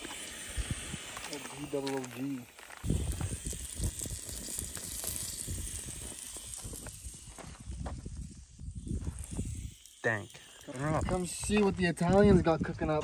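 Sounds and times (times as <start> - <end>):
sausages sizzling on a grill: 0.0 - 12.1.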